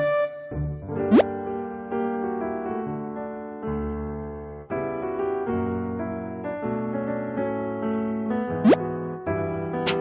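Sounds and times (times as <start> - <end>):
gentle piano chords: 0.0 - 10.0.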